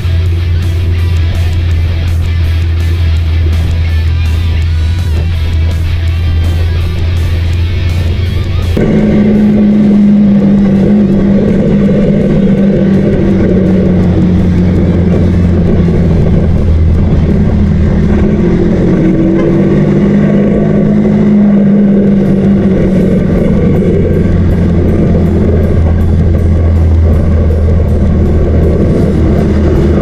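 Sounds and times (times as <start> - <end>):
motorcycle engine riding: 0.0 - 30.0.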